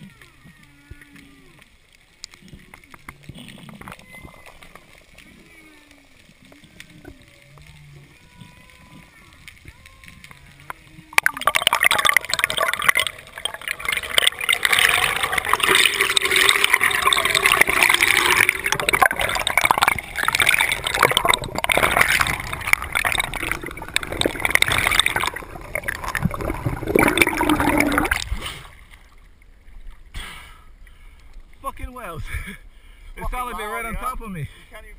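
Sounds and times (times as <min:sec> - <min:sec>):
underwater rushing and gurgling: 0:00.0 - 0:34.1.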